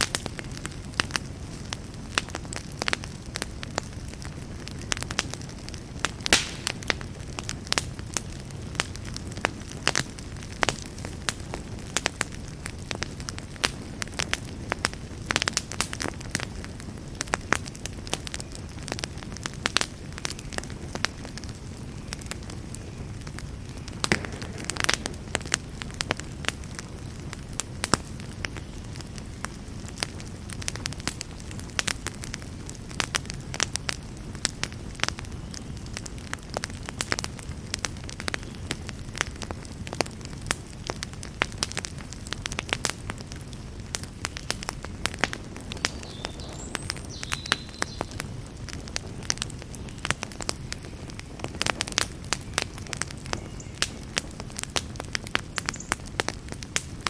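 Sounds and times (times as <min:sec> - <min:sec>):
campfire flame rumble: 0:00.0 - 0:57.0
fire crackling and popping: 0:00.0 - 0:57.0.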